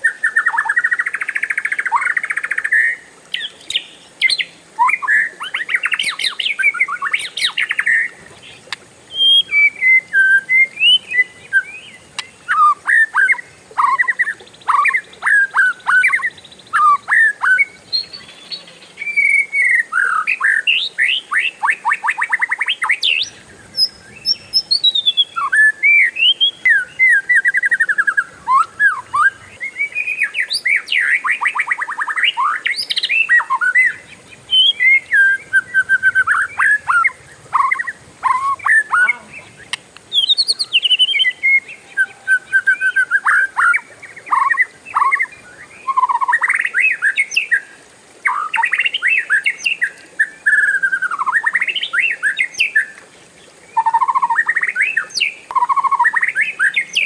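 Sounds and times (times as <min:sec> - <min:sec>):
bird singing with rattling trills: 0:00.0 - 0:47.6.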